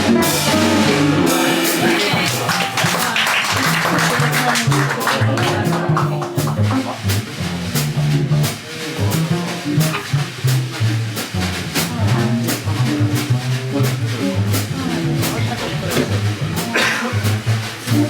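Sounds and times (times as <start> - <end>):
low bass line: 0.0 - 2.8, 5.3 - 18.0
drum kit cymbal strokes: 0.0 - 3.2, 5.6 - 18.0
jazz combo playing: 0.0 - 18.0.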